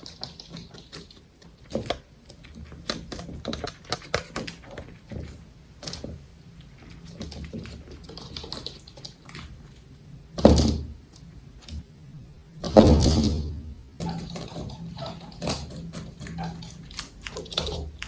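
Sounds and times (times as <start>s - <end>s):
guinea pigs crunching food: 0.0s - 18.0s.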